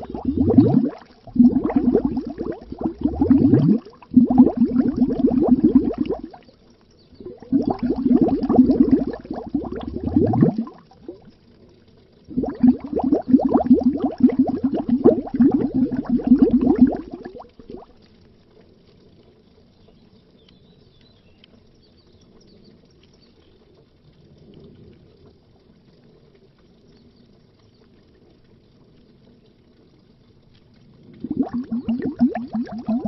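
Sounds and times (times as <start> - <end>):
underwater bubbling: 0.0 - 20.4, 21.4 - 33.0.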